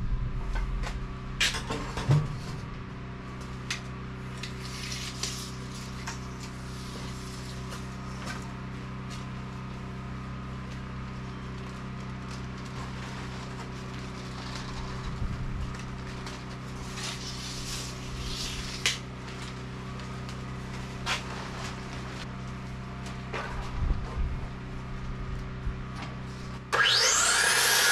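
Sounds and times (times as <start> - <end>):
engine hum: 0.0 - 27.9.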